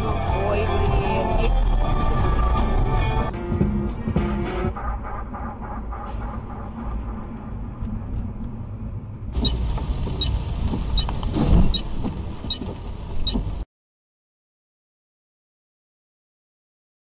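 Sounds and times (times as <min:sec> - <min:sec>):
car engine and road rumble: 0:00.0 - 0:13.7.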